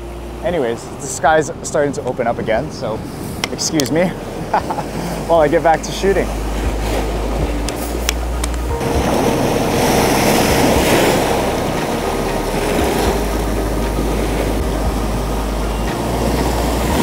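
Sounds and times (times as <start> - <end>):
wind rumbling on microphone: 2.2 - 17.0
surf breaking over rocks: 3.3 - 17.0.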